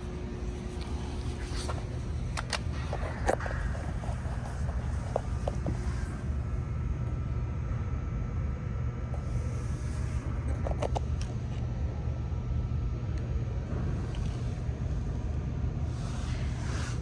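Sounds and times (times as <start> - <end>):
low rumble of background din: 0.0 - 17.0.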